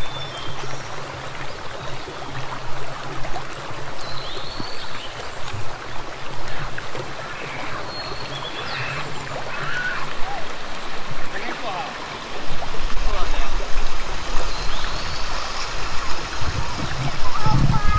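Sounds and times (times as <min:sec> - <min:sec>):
running water rushing: 0:00.0 - 0:17.9.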